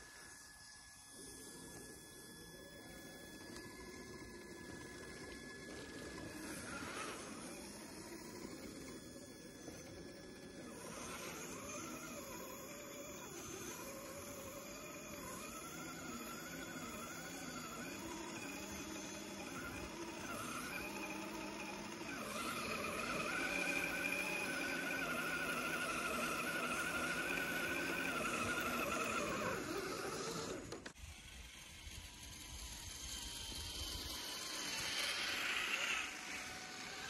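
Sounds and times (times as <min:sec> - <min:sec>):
electric winch whining: 0:00.0 - 0:37.0.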